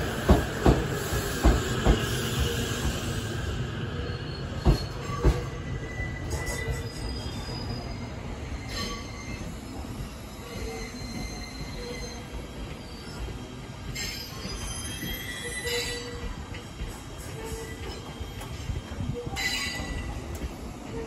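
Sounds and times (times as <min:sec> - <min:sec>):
train brakes squealing: 0:00.0 - 0:21.0
train rumbling slowly: 0:00.0 - 0:21.0.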